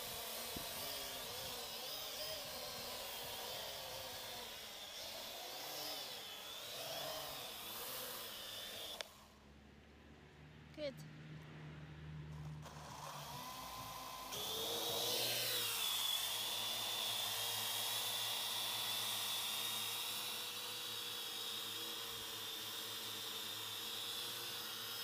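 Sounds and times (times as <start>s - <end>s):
drone motors whining: 0.0s - 9.4s, 12.4s - 25.0s.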